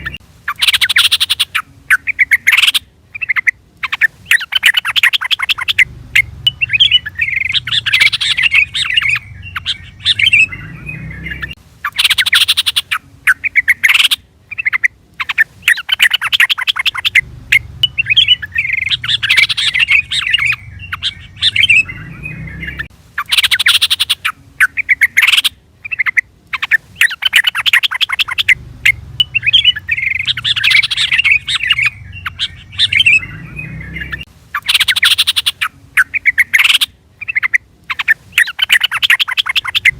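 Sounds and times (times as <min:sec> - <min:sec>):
bird chirping and chattering: 0:00.0 - 0:39.9.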